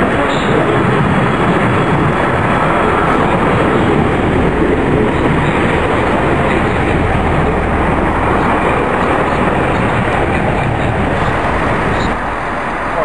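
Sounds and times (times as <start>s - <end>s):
diesel train rumbling past: 0.0s - 13.0s.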